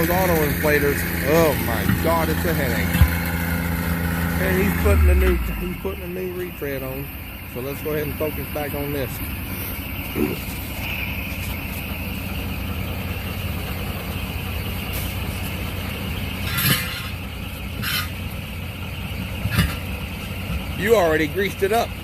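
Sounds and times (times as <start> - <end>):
truck diesel engine idling: 0.0 - 22.0.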